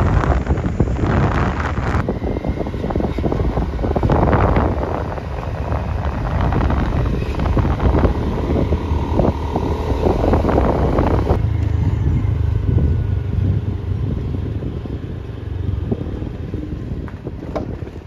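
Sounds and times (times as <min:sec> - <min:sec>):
vehicle engine and road rumble: 0:00.0 - 0:18.0
wind buffeting microphone: 0:00.0 - 0:18.0.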